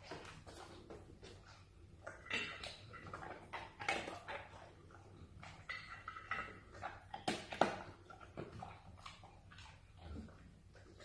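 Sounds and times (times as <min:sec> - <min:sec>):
dog snuffling and licking: 0:00.0 - 0:11.0.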